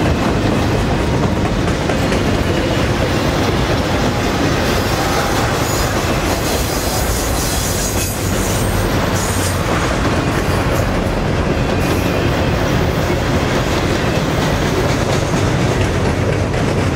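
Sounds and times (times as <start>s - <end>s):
freight train wheels rumbling: 0.0s - 16.9s.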